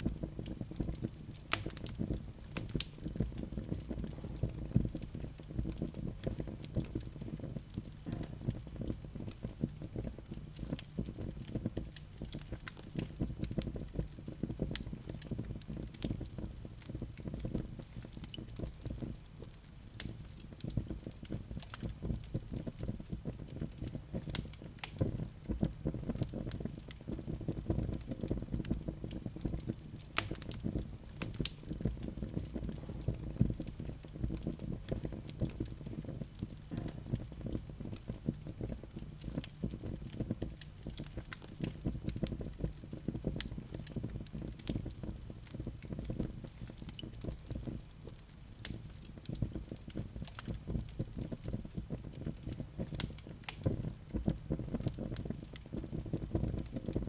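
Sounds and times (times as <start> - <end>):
burning logs crackling: 0.0 - 57.0
low rumble of flames: 0.0 - 57.0.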